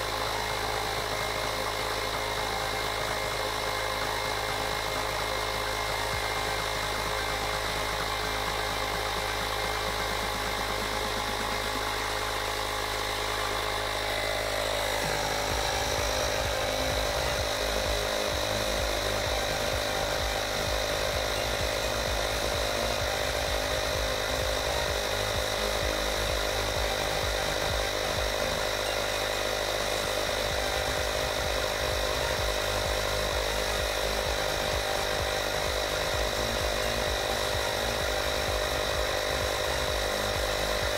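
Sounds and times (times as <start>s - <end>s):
electric tyre inflator running: 0.0s - 40.9s.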